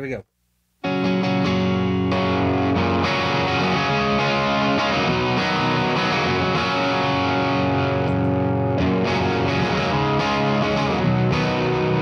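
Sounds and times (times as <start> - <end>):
distorted electric guitar: 0.8 - 12.0.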